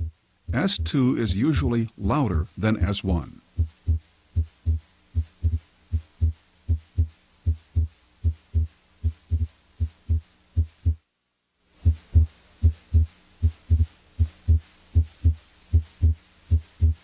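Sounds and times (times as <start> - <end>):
heartbeat through stethoscope: 0.0 - 1.0, 3.6 - 11.0, 11.8 - 17.0
faint steady hum: 0.0 - 17.0.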